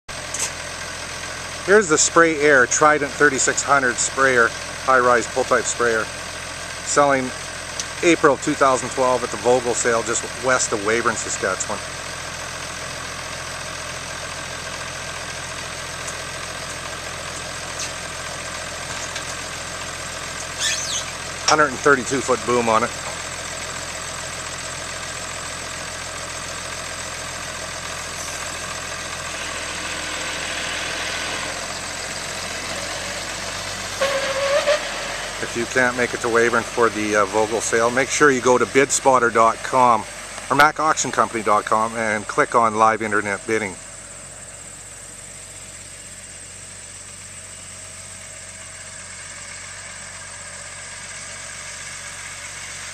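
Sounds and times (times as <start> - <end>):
engine idling: 0.1 - 52.9.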